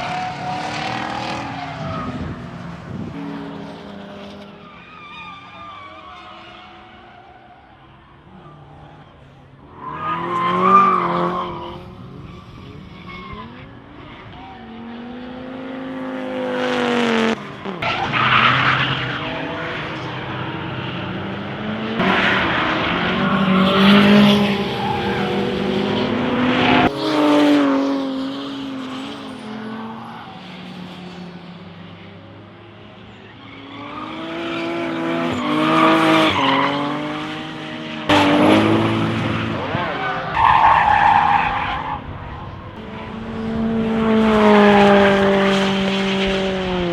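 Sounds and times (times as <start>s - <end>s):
race car engines revving past: 0.0s - 46.9s.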